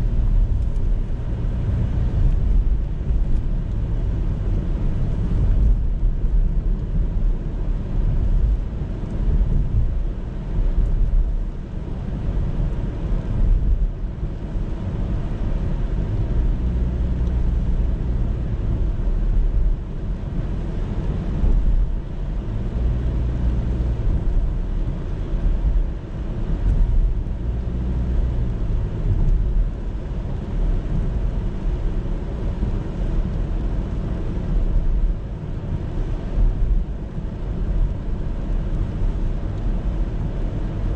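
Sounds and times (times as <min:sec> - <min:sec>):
car driving rumble: 0:00.0 - 0:40.9
faint engine hum: 0:00.0 - 0:40.9.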